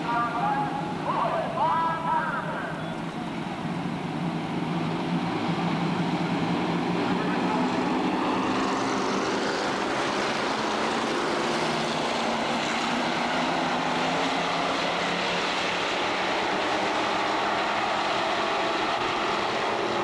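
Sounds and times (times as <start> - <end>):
race car engines: 0.0 - 20.0.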